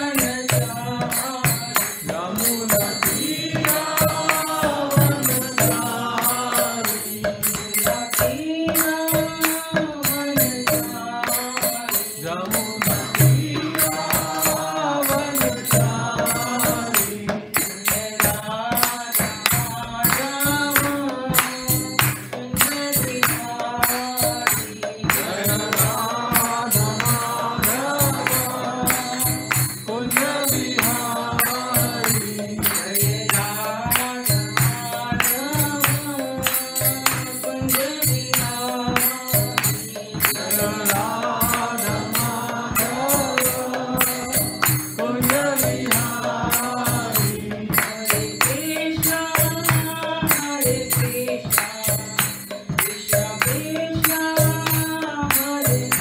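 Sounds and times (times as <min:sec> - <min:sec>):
woman singing a chant: 0:00.0 - 0:17.3, 0:18.0 - 0:56.0
small hand cymbals: 0:00.0 - 0:56.0.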